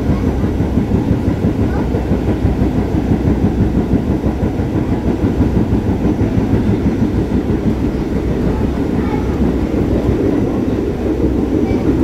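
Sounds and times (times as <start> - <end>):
subway car wheels rumbling on rail: 0.0 - 12.0.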